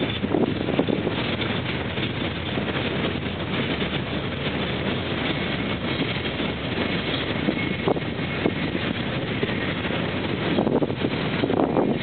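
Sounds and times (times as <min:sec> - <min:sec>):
steel train wheels clattering on rails: 0:00.0 - 0:12.0.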